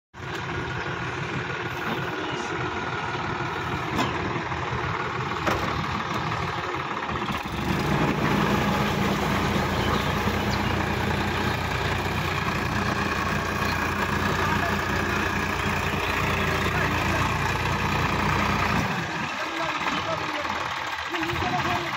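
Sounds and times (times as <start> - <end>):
tractor diesel engine running: 0.2 - 21.9.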